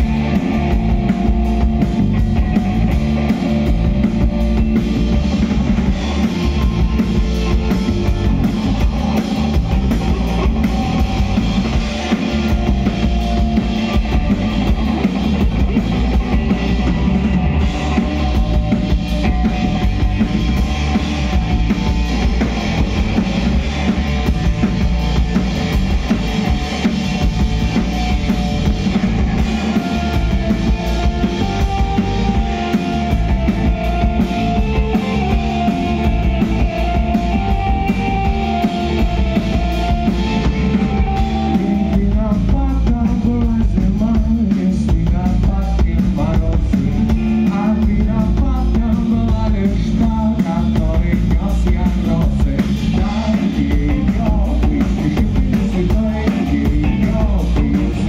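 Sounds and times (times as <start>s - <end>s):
drum kit with kick drum: 0.0s - 58.0s
electric bass: 0.0s - 58.0s
electric guitar: 0.0s - 58.0s.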